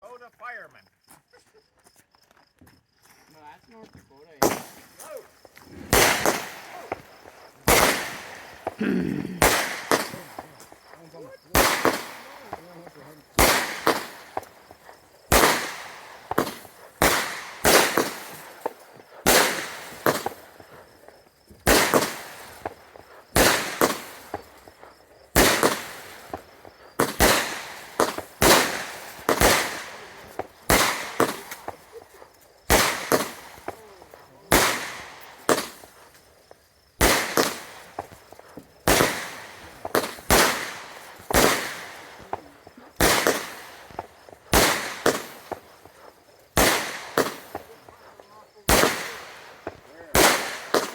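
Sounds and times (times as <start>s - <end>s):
fireworks bangs: 4.2s - 50.9s.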